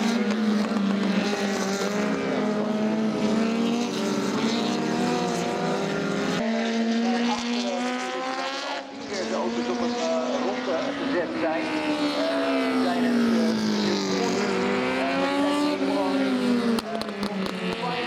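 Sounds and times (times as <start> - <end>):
racing car engines passing: 0.0 - 18.0.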